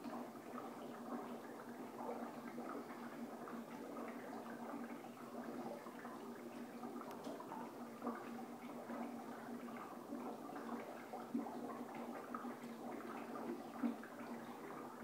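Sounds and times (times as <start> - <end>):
water bubbling and gurgling: 0.0 - 15.0.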